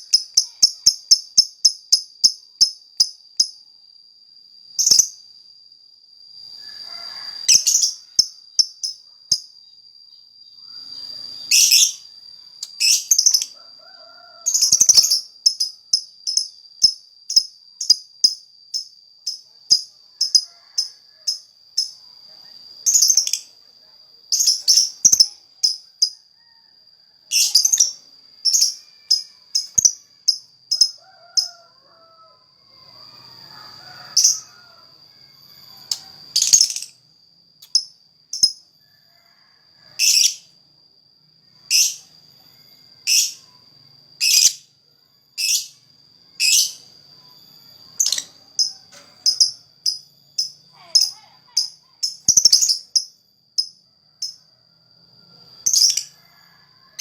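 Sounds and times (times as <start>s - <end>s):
thin steady high whine: 0.0s - 57.0s.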